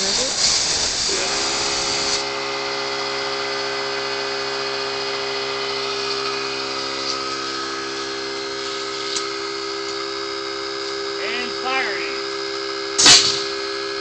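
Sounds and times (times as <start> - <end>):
electric air compressor running: 0.0 - 14.0.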